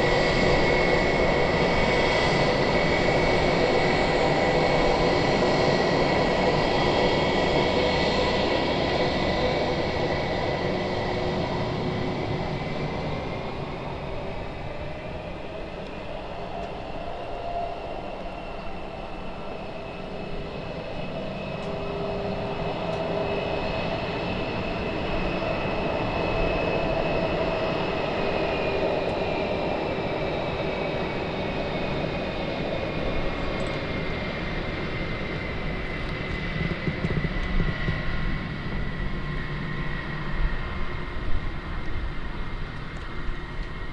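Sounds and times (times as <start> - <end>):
jet engines roaring with whine: 0.0 - 43.9.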